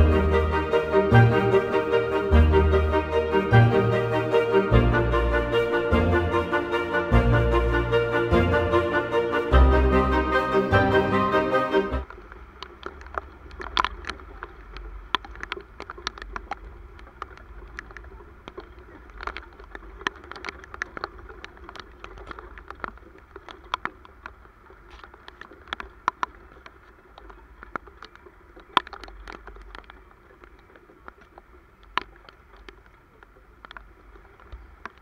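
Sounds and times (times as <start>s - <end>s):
low wind rumble: 0.0s - 35.0s
raindrops ticking on microphone: 0.0s - 35.0s.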